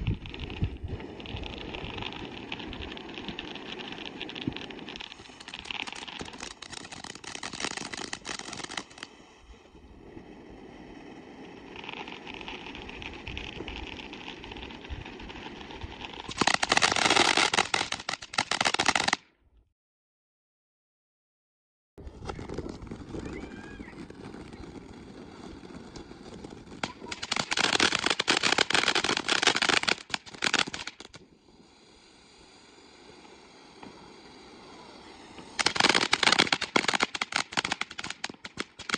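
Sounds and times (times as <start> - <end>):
firework sparks hissing and crackling: 0.0 - 19.2, 22.0 - 38.9.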